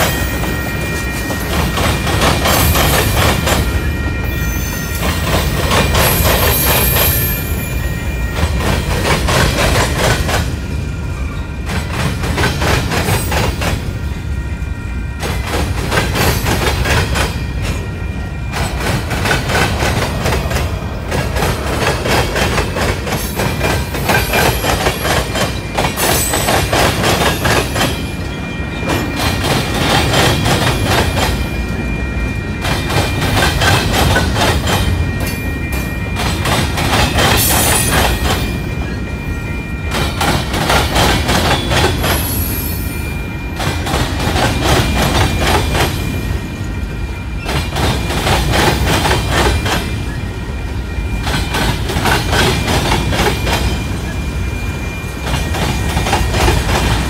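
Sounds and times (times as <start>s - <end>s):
train wheels clacking on rail joints: 0.0s - 7.7s, 8.3s - 10.6s, 11.3s - 14.2s, 15.2s - 50.2s, 51.1s - 57.0s
freight train rumbling: 0.0s - 57.0s.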